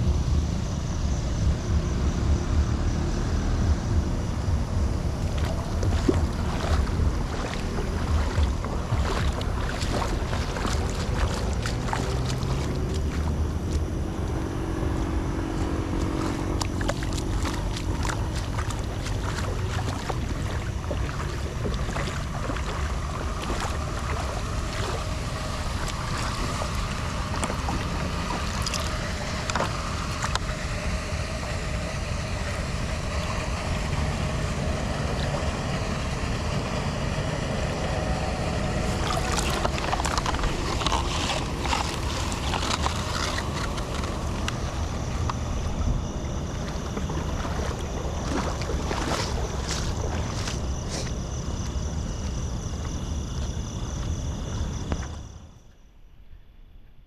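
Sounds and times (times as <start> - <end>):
wind rumbling on microphone: 0.0 - 55.6
floodwater sloshing and flowing: 1.4 - 56.0.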